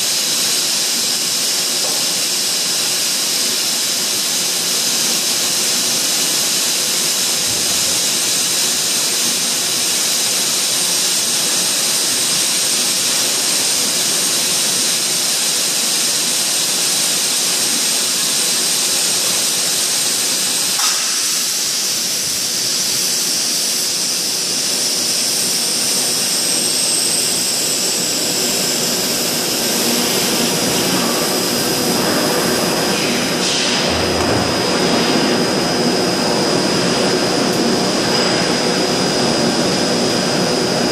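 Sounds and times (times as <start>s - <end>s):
factory machinery hissing: 0.0s - 40.9s
high steady whine: 0.0s - 40.9s.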